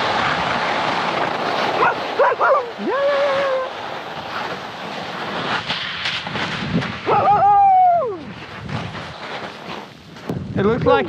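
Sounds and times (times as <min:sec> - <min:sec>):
skis scraping on snow: 0:00.0 - 0:11.0.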